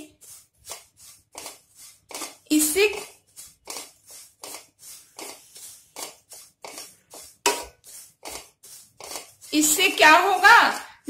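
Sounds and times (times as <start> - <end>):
wooden spatula scraping pan: 0.0 - 11.0.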